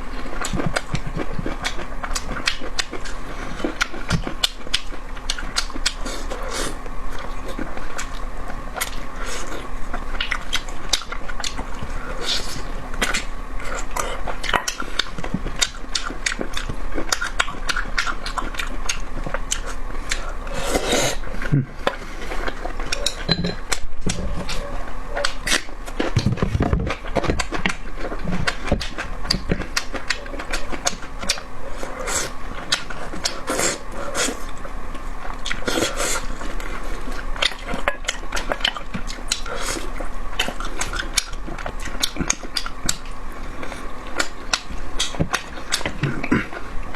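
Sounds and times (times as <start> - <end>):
faint steady hum: 0.0 - 46.9
person chewing meat: 0.0 - 46.9.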